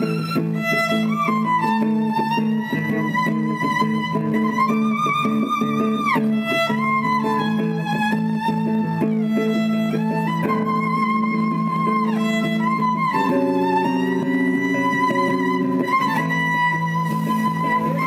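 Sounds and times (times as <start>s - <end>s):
bowed violin melody: 0.0s - 18.0s
low sustained accompaniment: 0.0s - 18.0s.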